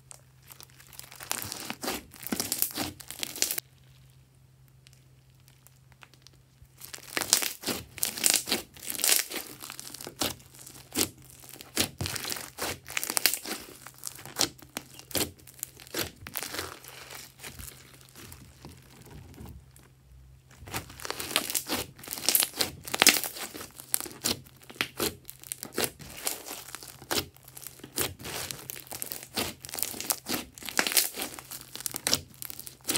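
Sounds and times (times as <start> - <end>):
crunchy slime crackling and popping: 0.0 - 32.9.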